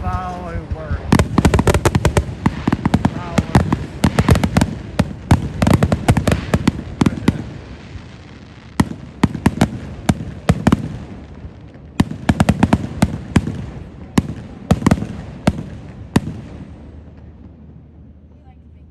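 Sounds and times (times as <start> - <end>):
fireworks bangs: 0.0 - 18.2.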